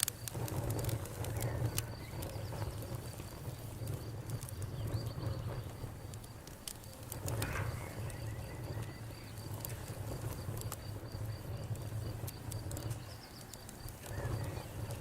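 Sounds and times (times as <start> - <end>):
campfire crackling and popping: 0.0 - 15.0
insect chirping: 0.0 - 15.0.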